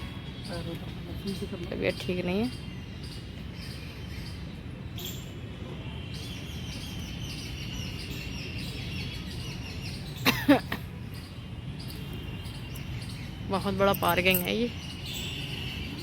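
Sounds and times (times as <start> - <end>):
birds: 0.0 - 16.0.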